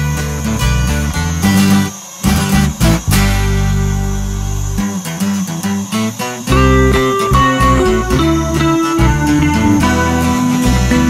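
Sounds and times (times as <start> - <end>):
guitar background music: 0.0 - 11.0.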